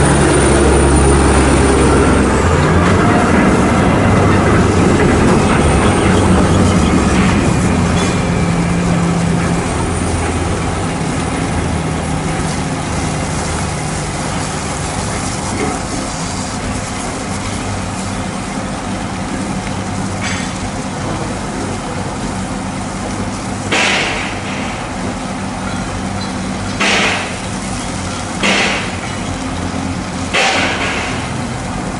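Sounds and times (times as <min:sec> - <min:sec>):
hose water spraying on truck: 0:00.0 - 0:31.9
low engine running: 0:00.0 - 0:31.9.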